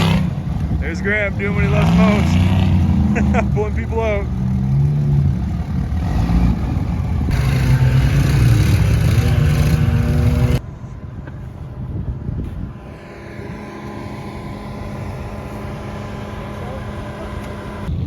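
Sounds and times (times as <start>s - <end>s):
truck engine working hard: 0.0s - 10.6s, 12.5s - 18.0s
engine drone with hum: 0.0s - 18.0s.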